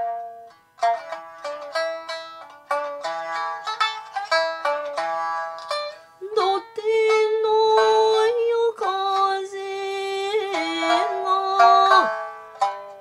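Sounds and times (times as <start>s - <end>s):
plucked shamisen notes: 0.0s - 13.0s.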